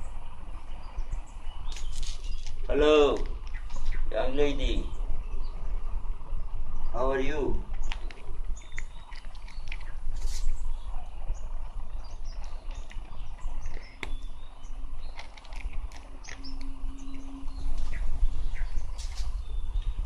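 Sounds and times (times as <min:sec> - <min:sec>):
faint steady hum: 0:00.0 - 0:20.0
low steady rumble: 0:00.0 - 0:20.0
small birds chirping: 0:00.0 - 0:20.0.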